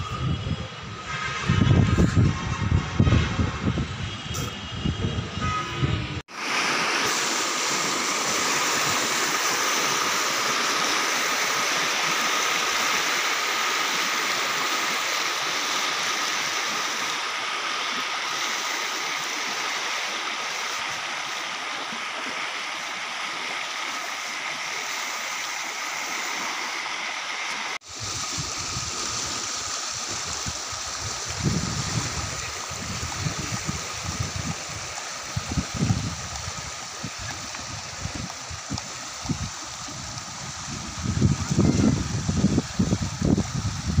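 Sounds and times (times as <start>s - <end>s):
flood water rushing: 6.0s - 44.0s.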